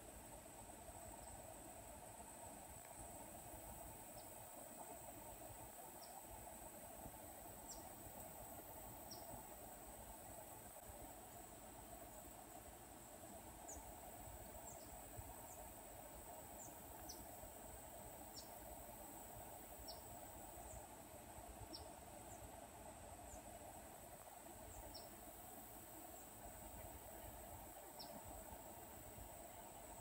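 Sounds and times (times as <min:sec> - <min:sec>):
insect chorus droning: 0:00.0 - 0:30.0.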